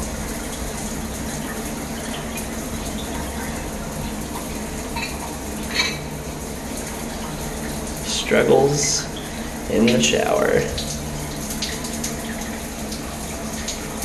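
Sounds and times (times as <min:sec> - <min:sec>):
shower water running: 0:00.0 - 0:14.0.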